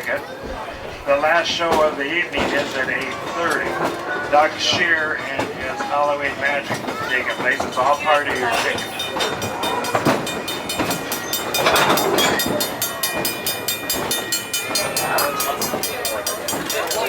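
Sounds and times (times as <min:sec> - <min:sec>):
train running gear clicking: 0:00.0 - 0:17.0.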